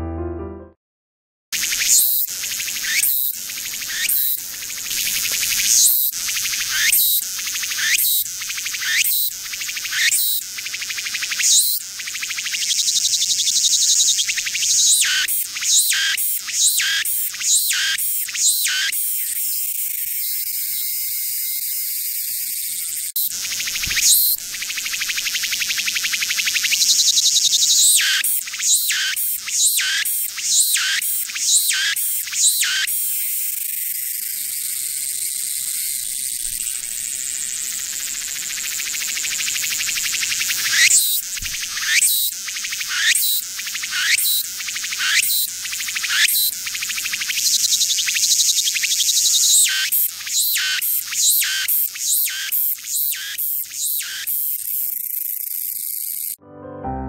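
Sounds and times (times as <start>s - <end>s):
cicada singing: 1.6s - 56.4s.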